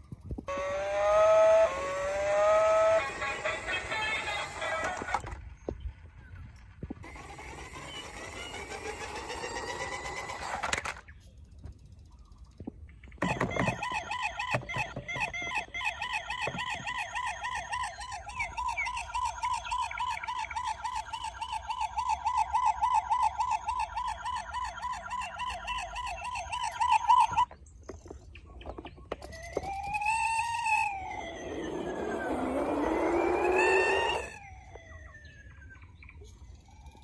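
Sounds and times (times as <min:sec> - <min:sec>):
toy siren warbling: 0:00.5 - 0:05.5, 0:07.0 - 0:11.0, 0:13.2 - 0:27.6, 0:28.7 - 0:37.0.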